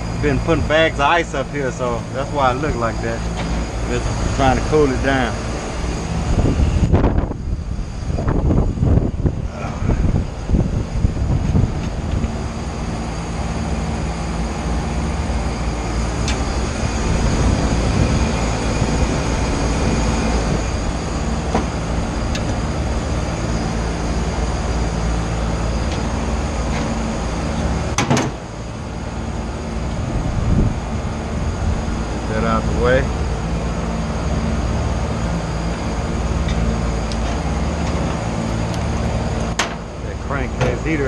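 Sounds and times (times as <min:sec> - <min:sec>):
steady machine hum: 0:00.0 - 0:41.0
wind buffeting microphone: 0:00.0 - 0:41.0.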